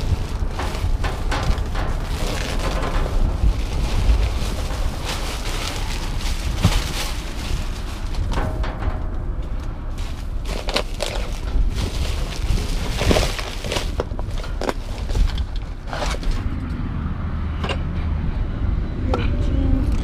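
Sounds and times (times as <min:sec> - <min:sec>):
plastic trash bags rustling: 0:00.0 - 0:16.4
steady low rumble: 0:00.0 - 0:20.0.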